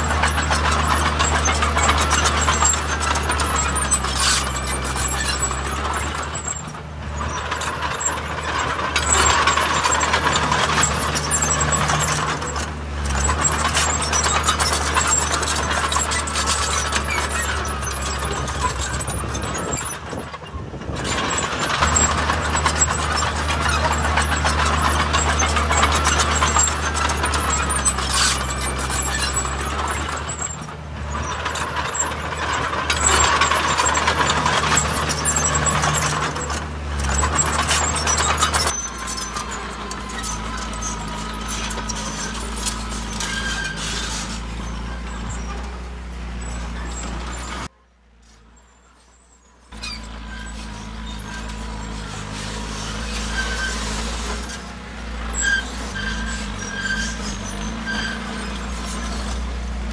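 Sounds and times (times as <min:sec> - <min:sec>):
diesel machinery engines running: 0:00.0 - 0:59.9.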